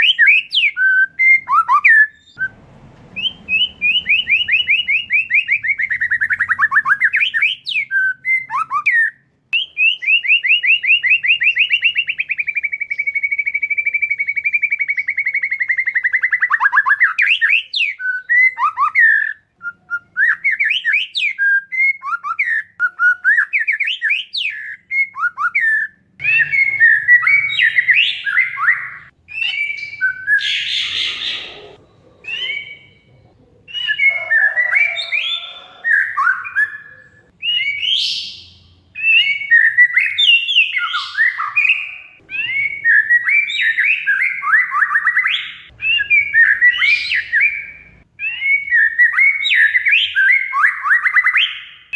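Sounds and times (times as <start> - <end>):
bird singing whistled song: 0.0 - 33.1, 33.7 - 51.9.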